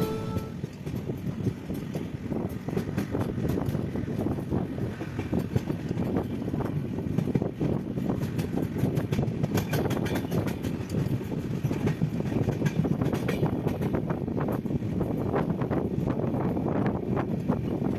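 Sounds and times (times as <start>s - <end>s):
train rumbling on track: 0.0s - 17.9s.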